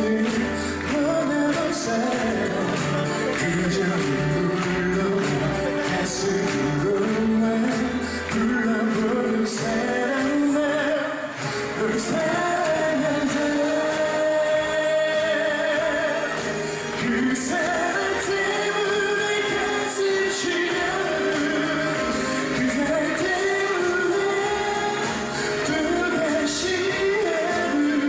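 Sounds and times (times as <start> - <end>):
band accompaniment: 0.0 - 28.0
man singing into a microphone: 0.0 - 28.0.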